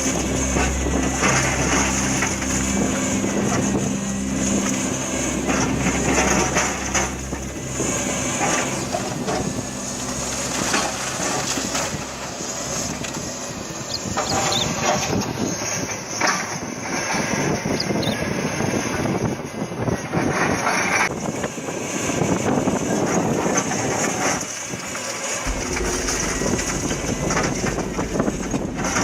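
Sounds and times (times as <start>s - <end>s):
heavy machine engine running: 0.0s - 29.0s.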